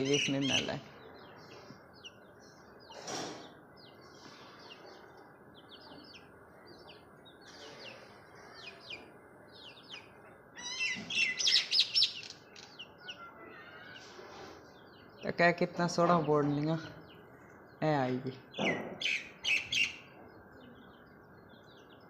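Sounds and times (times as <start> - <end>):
chattering bird calls: 0.0 - 22.0
myna chirping: 0.0 - 22.0.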